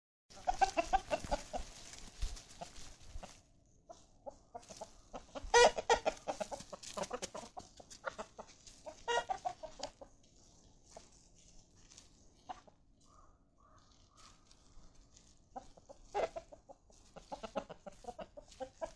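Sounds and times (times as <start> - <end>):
chickens clucking: 0.3 - 18.9.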